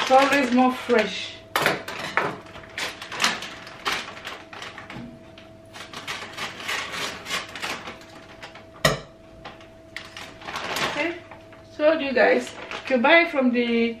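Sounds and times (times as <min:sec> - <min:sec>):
plastic bag crinkling: 0:00.0 - 0:01.3, 0:01.9 - 0:08.8, 0:09.4 - 0:13.5.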